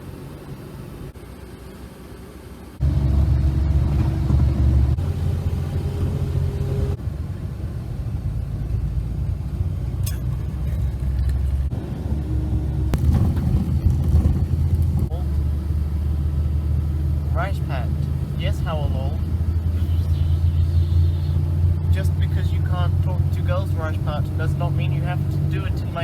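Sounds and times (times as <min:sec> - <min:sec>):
vehicle rumble: 0:00.0 - 0:26.0.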